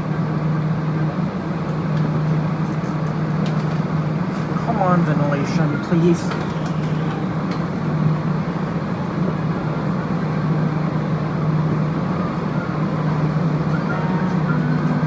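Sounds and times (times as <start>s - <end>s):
metro car equipment humming: 0.0s - 15.0s.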